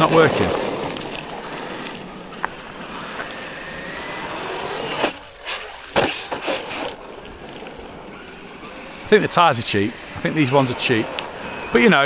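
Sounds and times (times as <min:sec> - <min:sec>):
sharp crunches and knocks: 0:00.0 - 0:11.3
electric motor whine: 0:00.0 - 0:12.0
tyres rushing over gravel: 0:00.0 - 0:12.0.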